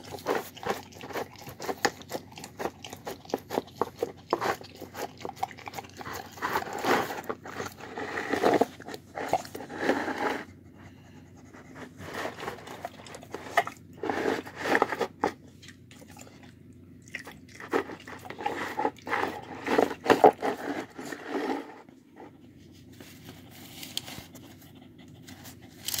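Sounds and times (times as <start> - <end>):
dog chewing food from plastic bowl: 0.0 - 10.6, 11.6 - 22.5.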